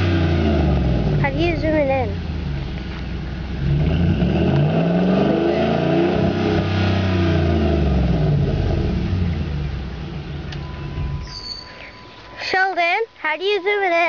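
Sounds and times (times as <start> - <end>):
truck engine revving: 0.0 - 12.3.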